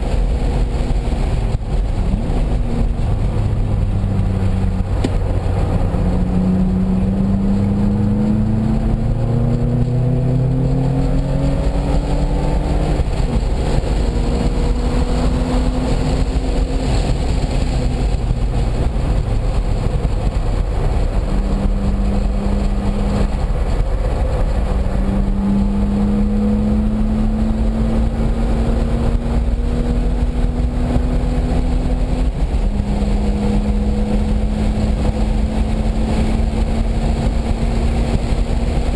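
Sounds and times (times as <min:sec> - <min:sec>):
car engine revving: 0:00.0 - 0:38.9
low road and wind rumble: 0:00.0 - 0:38.9.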